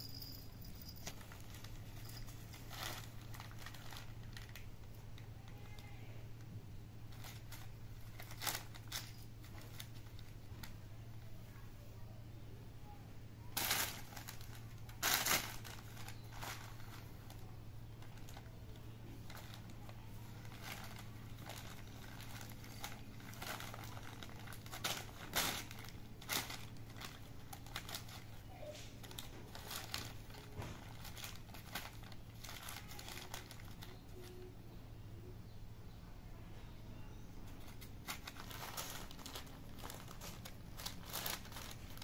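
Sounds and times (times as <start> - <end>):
paper crinkling and rustling: 0.1 - 6.1, 7.1 - 10.8, 13.5 - 34.5, 37.4 - 42.0.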